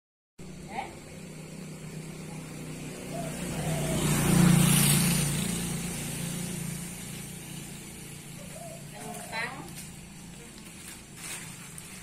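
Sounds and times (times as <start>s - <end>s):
vehicle passing by: 0.4s - 12.0s.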